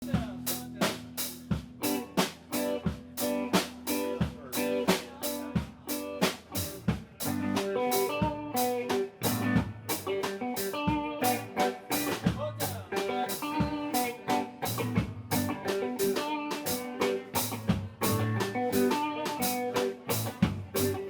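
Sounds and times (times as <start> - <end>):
drum kit beat: 0.0 - 21.0
guitar: 0.0 - 21.0.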